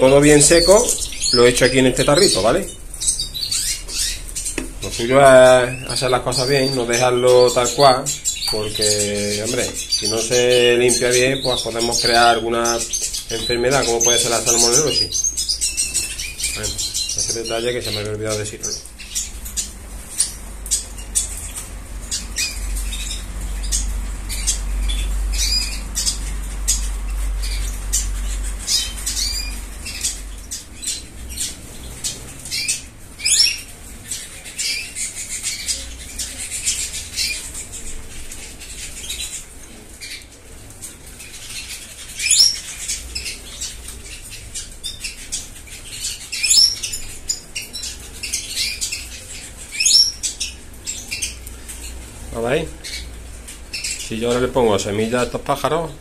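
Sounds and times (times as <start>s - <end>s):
finches chirping: 0.0s - 56.0s.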